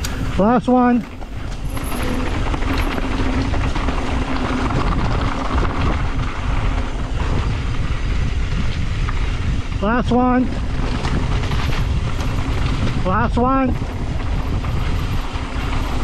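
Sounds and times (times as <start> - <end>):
bike tyres rumbling over dirt: 0.0 - 16.0
wind on microphone: 0.0 - 16.0.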